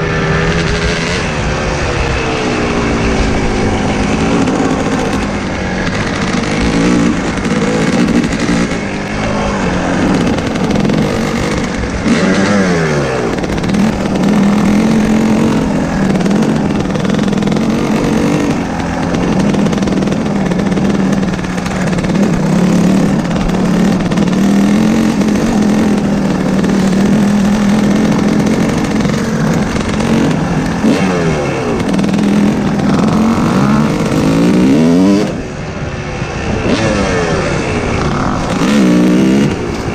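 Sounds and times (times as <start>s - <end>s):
dirt bike engine: 0.0s - 39.9s
wind noise: 0.0s - 39.9s.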